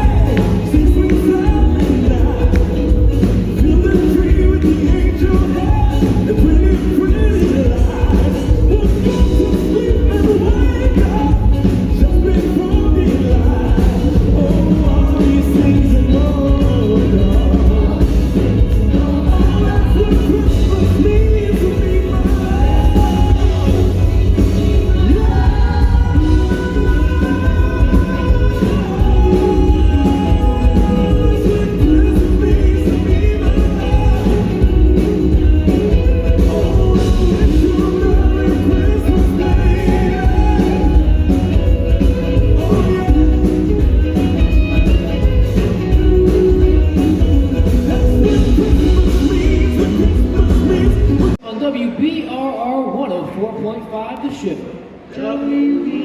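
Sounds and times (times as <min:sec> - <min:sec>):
person singing over a band: 0:00.0 - 0:51.4
steady drum beat: 0:00.0 - 0:51.4
strong bass: 0:00.0 - 0:51.4.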